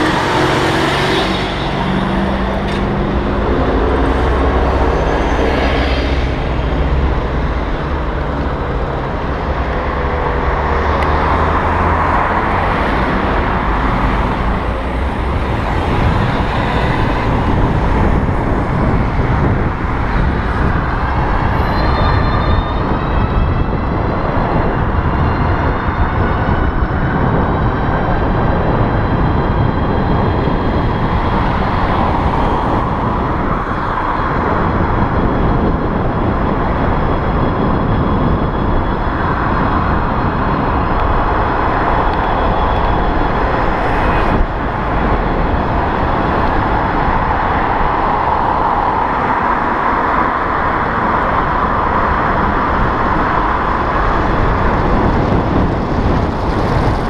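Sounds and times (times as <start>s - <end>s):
motor vehicle traffic: 0.0s - 57.0s
steady engine hum: 0.0s - 57.0s
wind rumble on microphone: 0.0s - 57.0s.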